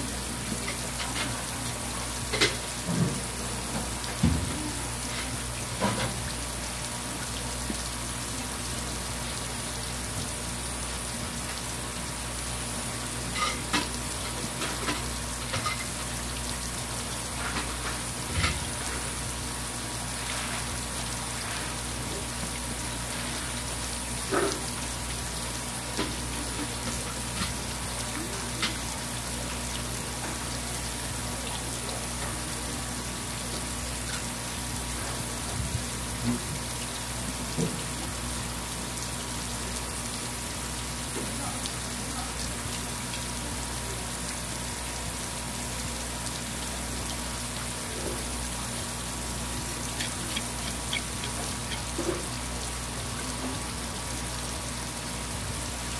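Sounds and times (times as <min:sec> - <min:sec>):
running water hissing: 0:00.0 - 0:55.9.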